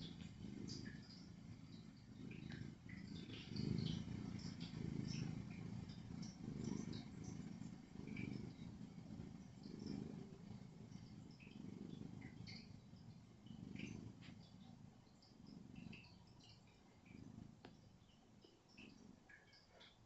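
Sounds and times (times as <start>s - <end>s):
cat snoring softly: 0.0s - 20.0s.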